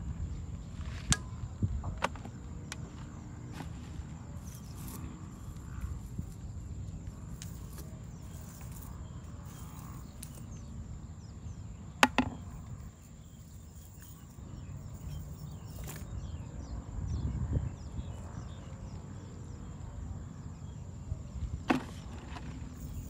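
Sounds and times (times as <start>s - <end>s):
wind rumbling on microphone: 0.0s - 11.6s, 12.4s - 23.0s.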